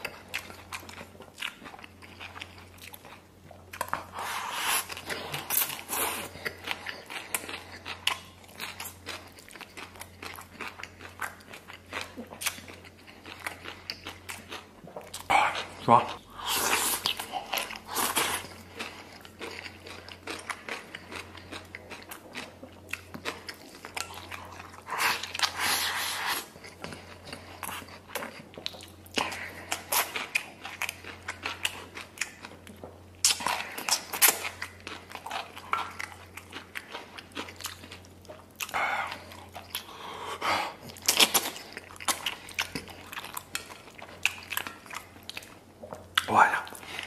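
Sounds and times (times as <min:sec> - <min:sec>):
man chewing food: 0:00.0 - 0:47.0.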